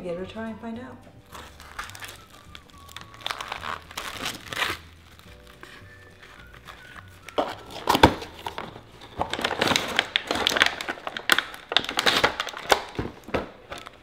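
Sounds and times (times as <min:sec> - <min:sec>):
plastic wrap crinkling: 0:01.2 - 0:14.0.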